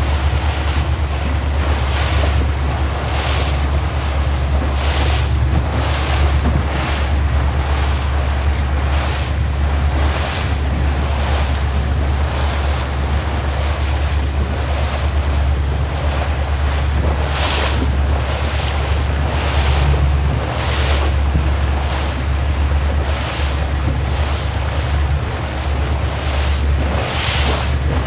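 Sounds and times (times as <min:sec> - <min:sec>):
motorboat engine drone: 0:00.0 - 0:28.0
water washing against hull: 0:00.0 - 0:28.0
wind on the microphone: 0:00.0 - 0:28.0.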